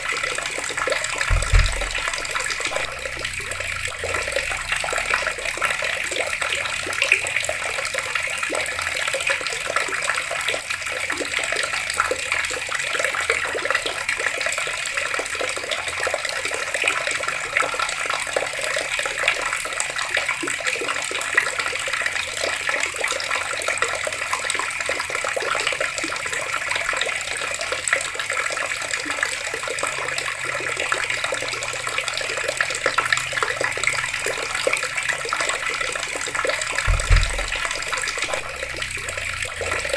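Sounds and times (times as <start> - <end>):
water pouring from taps: 0.0 - 39.9.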